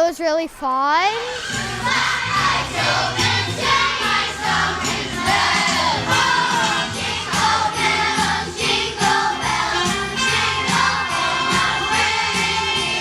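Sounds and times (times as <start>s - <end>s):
children's chorus singing: 1.2s - 13.0s
accompaniment with steady beat: 1.6s - 13.0s.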